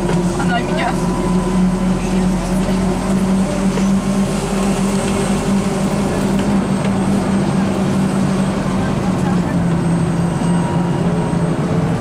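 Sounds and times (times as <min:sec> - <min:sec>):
tyres rushing on wet asphalt: 0:00.0 - 0:12.0.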